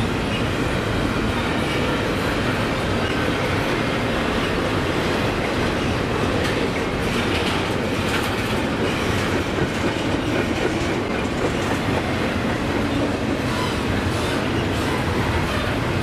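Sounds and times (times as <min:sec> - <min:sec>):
train wheels rumbling on rails: 0:00.0 - 0:16.0
wheels clacking on rails: 0:00.0 - 0:16.0.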